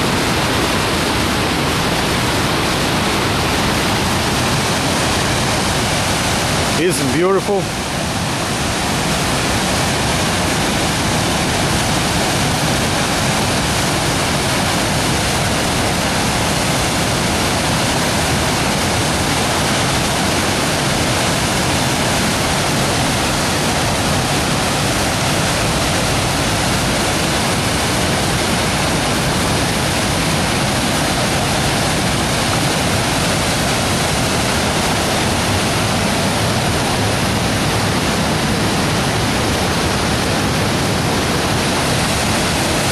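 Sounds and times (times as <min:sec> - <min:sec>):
floodwater rushing: 0:00.0 - 0:42.9.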